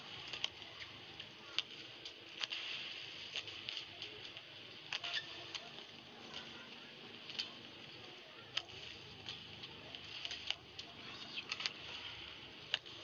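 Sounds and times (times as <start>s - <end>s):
steady arena hiss: 0.0s - 13.0s.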